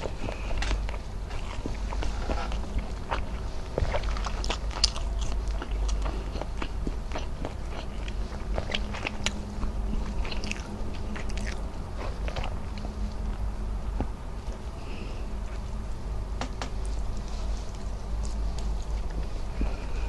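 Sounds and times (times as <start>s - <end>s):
chewing and wet mouth sounds: 0.0s - 20.0s.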